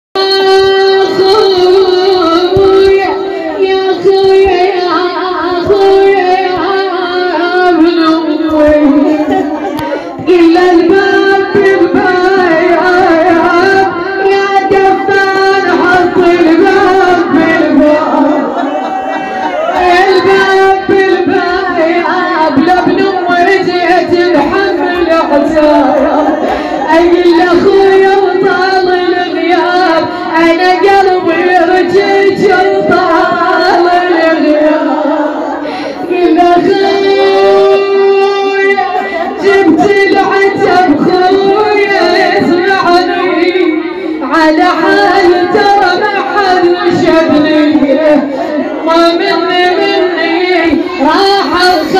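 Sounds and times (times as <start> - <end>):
woman chanting a sad lament: 0.2 - 51.9.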